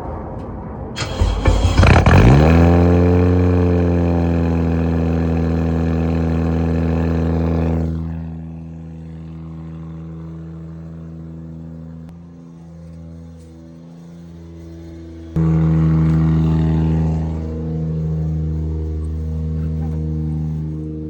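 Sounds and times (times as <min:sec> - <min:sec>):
car engine idling: 0:01.0 - 0:12.1, 0:14.0 - 0:21.0.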